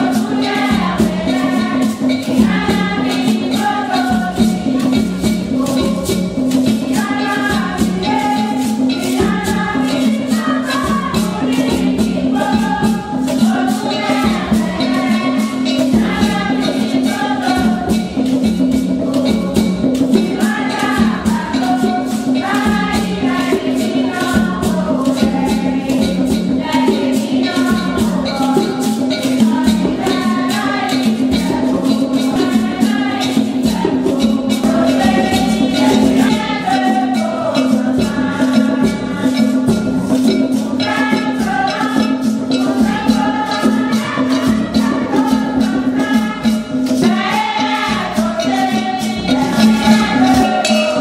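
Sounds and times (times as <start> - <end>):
group singing: 0.0 - 51.0.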